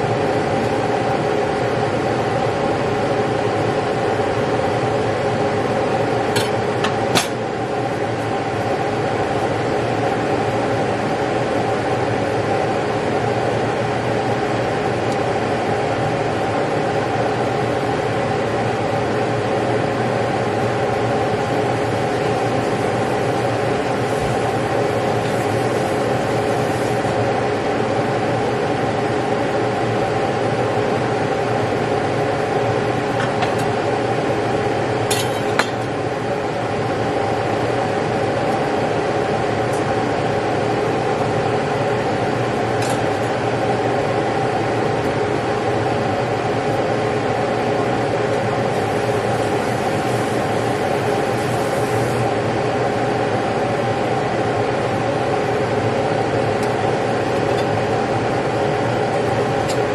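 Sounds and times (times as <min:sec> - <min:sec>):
fan-like machine humming: 0:00.0 - 0:59.9.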